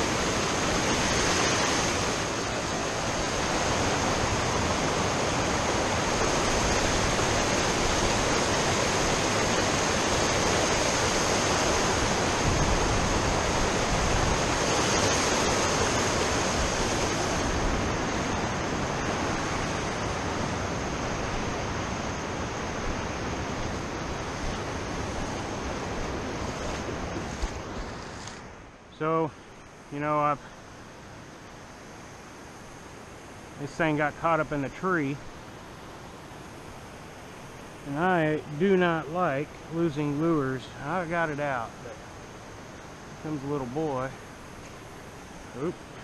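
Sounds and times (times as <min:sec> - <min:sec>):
river rushing over rocks: 0:00.0 - 0:46.0.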